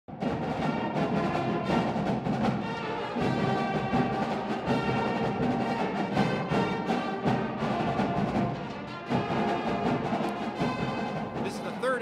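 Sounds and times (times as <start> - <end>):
brass band playing: 0.1 - 12.0
steady drum strokes: 0.1 - 12.0.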